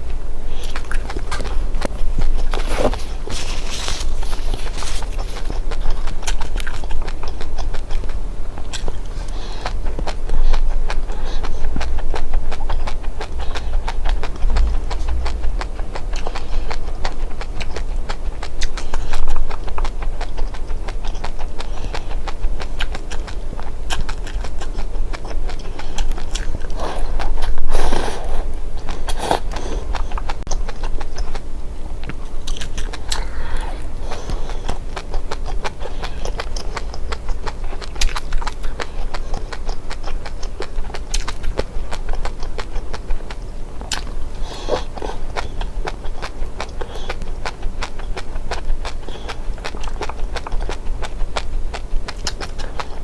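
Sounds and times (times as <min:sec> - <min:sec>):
chewing and crunching dry seeds: 0:00.0 - 0:53.0.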